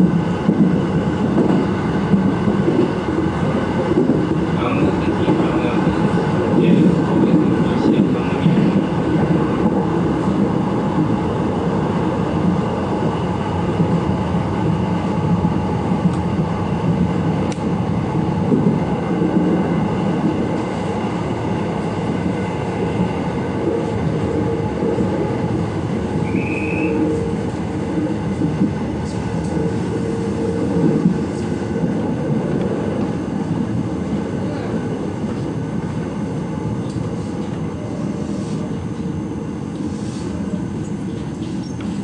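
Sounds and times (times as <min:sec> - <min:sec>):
train wheels rumbling: 0:00.0 - 0:42.0.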